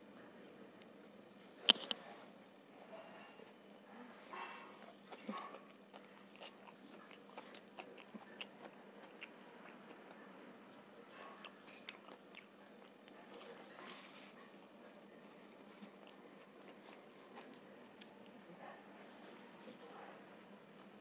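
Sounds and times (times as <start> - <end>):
chewing pizza: 3.4 - 21.0.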